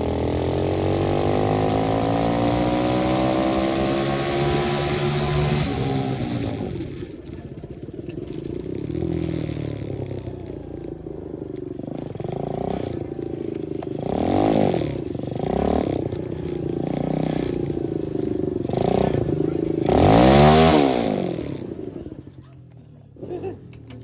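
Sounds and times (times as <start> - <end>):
dirt bike engine revving: 0.0 - 22.4.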